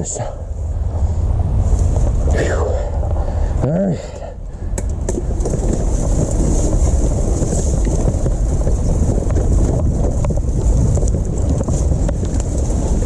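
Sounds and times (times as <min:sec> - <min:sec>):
electric bike rumbling on trail: 0:00.0 - 0:13.0
wind buffeting microphone: 0:00.0 - 0:13.0.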